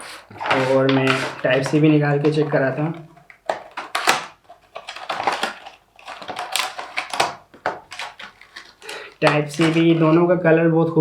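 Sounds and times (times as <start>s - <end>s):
plastic packaging crackling and rustling: 0.0s - 10.3s.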